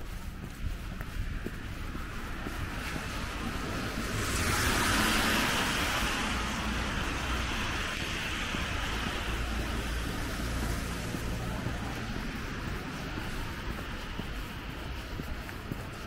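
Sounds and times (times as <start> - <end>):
car tyres hissing on wet street: 0.1 - 16.0.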